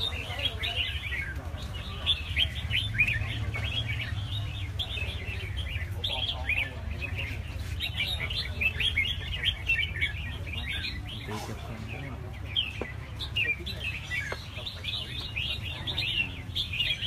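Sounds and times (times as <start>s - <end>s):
birds chirping and warbling: 0.0s - 17.0s.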